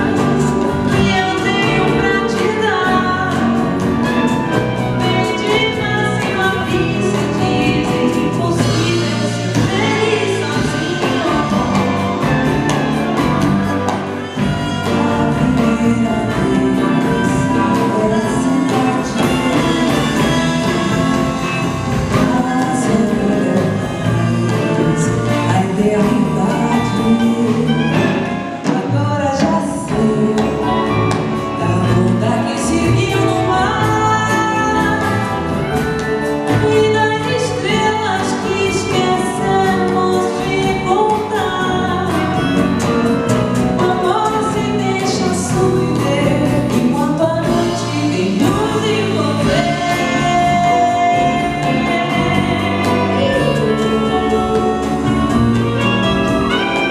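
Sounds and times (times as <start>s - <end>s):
orchestra playing: 0.0s - 56.9s
woman singing: 0.0s - 56.9s.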